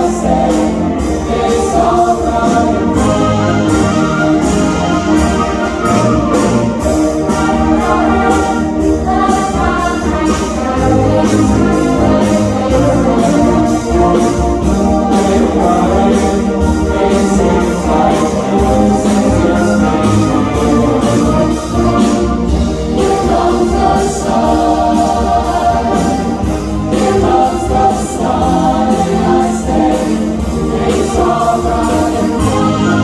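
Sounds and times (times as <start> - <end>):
concert band playing chords: 0.0 - 33.0.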